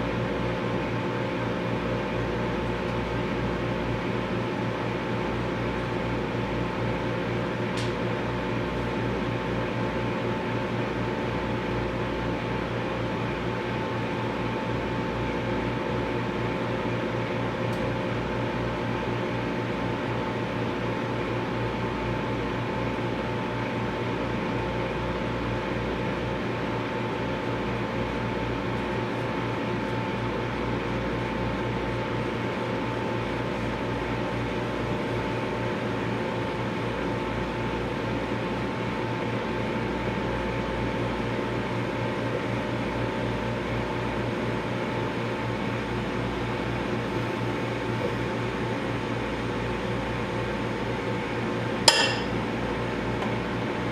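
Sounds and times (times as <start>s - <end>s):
microwave oven humming: 0.0s - 53.9s.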